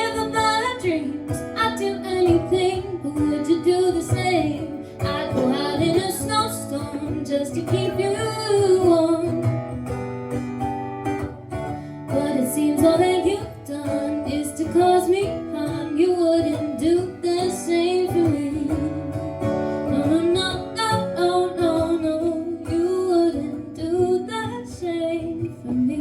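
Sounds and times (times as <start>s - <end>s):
woman singing slow song: 0.0s - 9.6s, 12.0s - 26.0s
strummed acoustic guitar: 0.0s - 26.0s.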